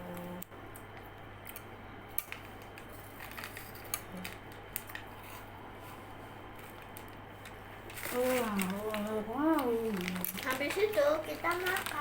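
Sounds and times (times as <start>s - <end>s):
snack packaging clicks: 0.7s - 5.1s, 6.6s - 12.0s.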